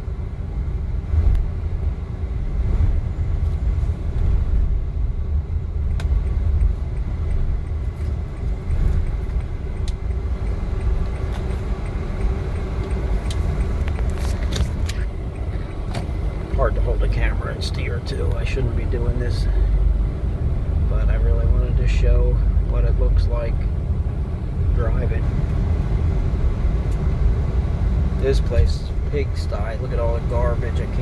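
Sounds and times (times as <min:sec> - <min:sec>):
car engine and tyre noise: 0:00.0 - 0:31.0.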